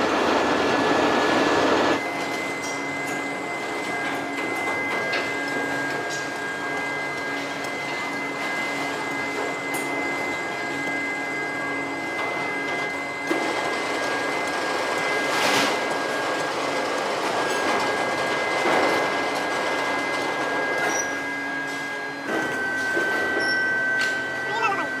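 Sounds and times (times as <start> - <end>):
factory machinery running: 0.0 - 25.0.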